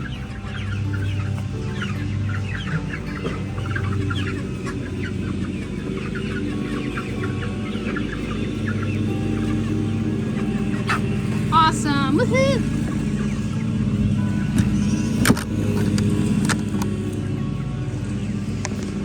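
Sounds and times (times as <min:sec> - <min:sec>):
chickens clucking: 0:00.0 - 0:19.0
tractor engine running: 0:00.0 - 0:19.0.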